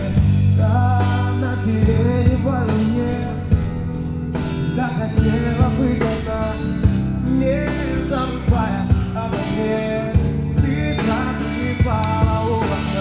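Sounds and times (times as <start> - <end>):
person singing: 0.0 - 3.8, 4.6 - 13.0
rock song with drums and guitar: 0.0 - 13.0.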